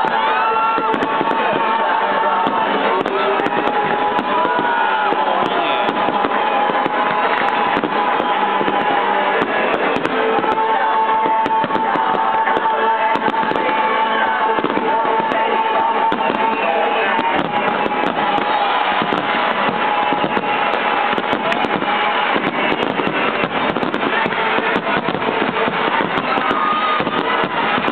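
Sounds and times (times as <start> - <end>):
fireworks bursting and crackling: 0.0 - 27.9.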